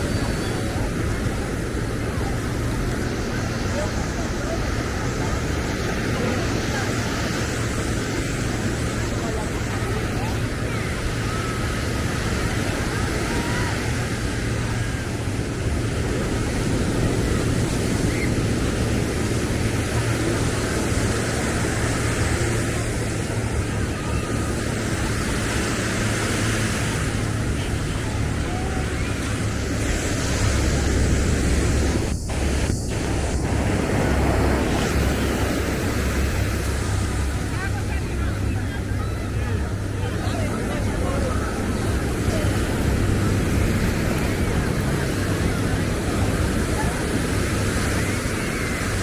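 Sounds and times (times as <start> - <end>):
faint voices: 0.0 - 49.0
ocean surf washing in: 0.0 - 49.0
wind rumble on microphone: 0.0 - 49.0.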